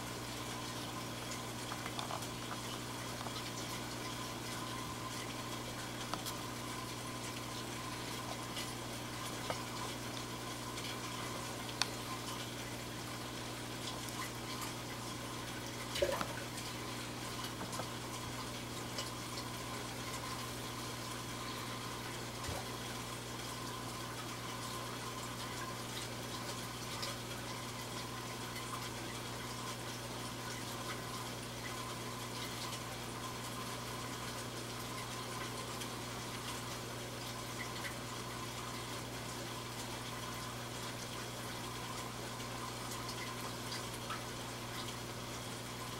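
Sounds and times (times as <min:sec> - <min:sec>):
aquarium water bubbling: 0:00.0 - 0:45.9
low electrical hum: 0:00.0 - 0:45.9.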